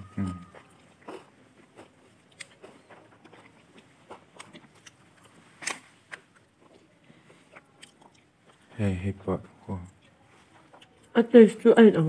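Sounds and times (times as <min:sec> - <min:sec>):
quiet chewing: 0:00.0 - 0:08.8, 0:09.4 - 0:11.3.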